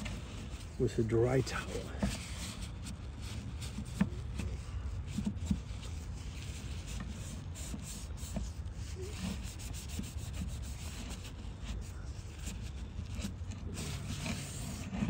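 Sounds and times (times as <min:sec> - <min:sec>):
low steady rumble: 0:00.0 - 0:15.0
paper towel wiping grill plate: 0:00.0 - 0:15.0.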